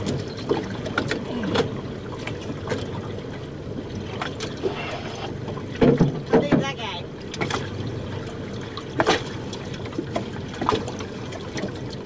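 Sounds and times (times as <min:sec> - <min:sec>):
short splashes and knocks: 0:00.0 - 0:12.0
water sloshing against hull: 0:00.0 - 0:12.0.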